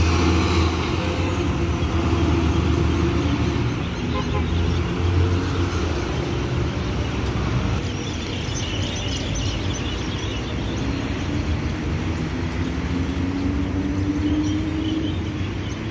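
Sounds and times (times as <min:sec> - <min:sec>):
steady hum of cars: 0:00.0 - 0:15.9.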